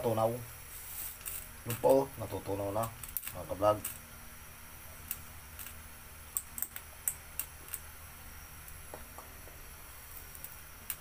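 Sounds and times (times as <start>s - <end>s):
low steady hum: 0.0s - 11.0s
sugar crackling in a wok: 0.0s - 11.0s.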